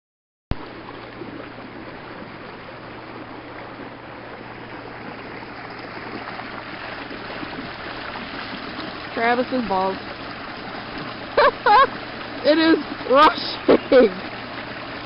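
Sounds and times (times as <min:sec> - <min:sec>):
creek water rushing: 0:00.5 - 0:15.0.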